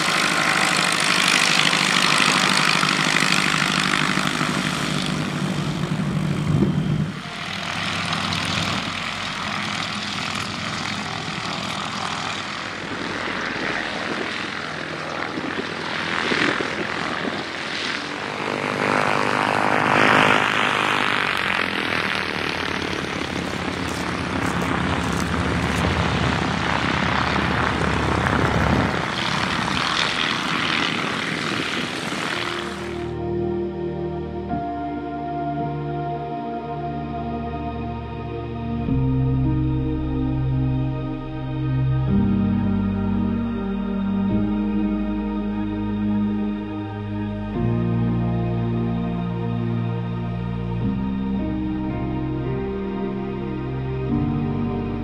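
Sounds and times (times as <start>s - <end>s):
propeller aircraft engines: 0.0s - 55.0s.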